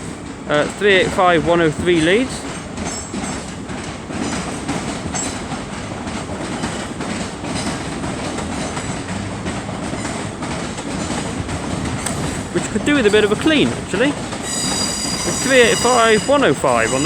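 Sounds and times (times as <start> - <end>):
train rumbling past: 0.0 - 17.0
wheels clicking over rail joints: 0.0 - 17.0.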